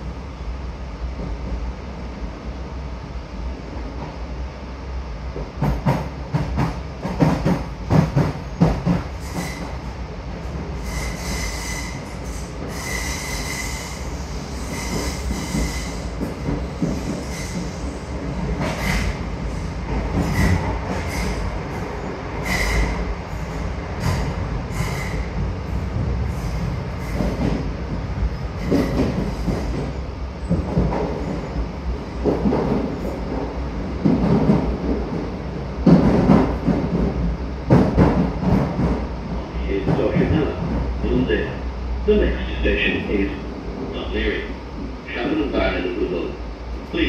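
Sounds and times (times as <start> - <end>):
train low rumble: 0.0 - 47.0.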